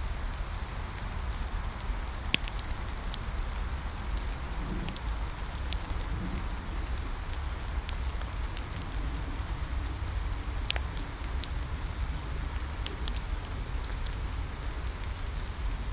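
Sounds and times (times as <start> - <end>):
steady rain falling: 0.0 - 15.9
bonfire crackling and popping: 0.1 - 15.9.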